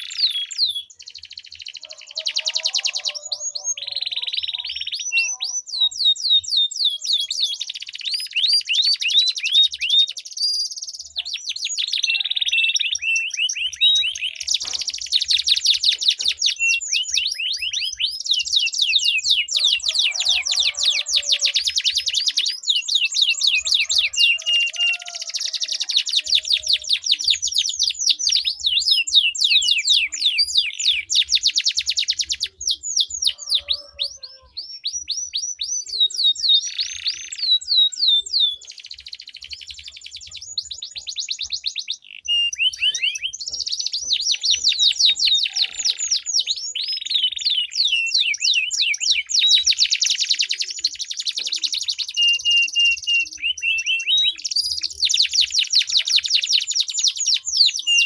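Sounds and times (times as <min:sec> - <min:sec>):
canaries trilling: 0:00.0 - 0:58.0.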